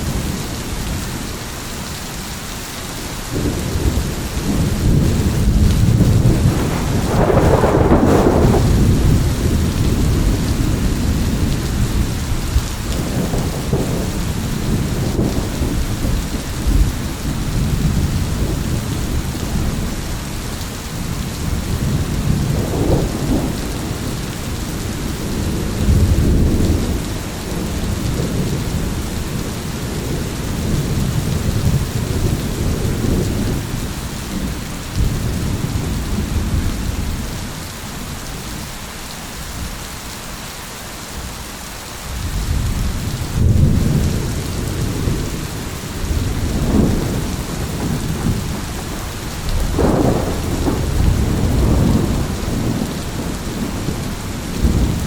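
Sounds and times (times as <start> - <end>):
heavy rain: 0.0 - 55.0
rolling thunder: 3.3 - 38.7, 42.1 - 55.0.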